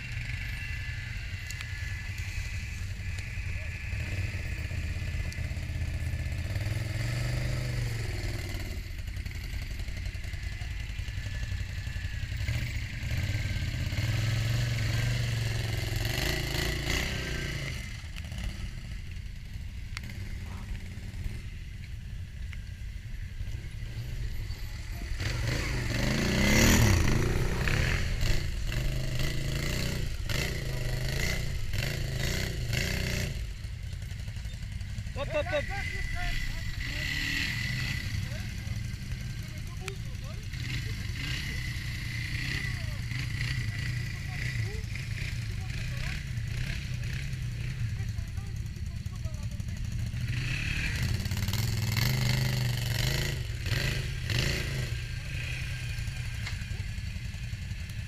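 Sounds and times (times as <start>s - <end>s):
quad bike engines revving: 0.0s - 58.0s.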